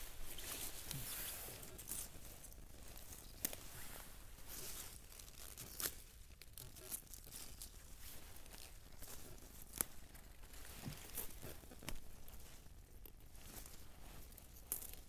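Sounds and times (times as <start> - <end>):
rustling leafy plants: 0.0 - 15.0.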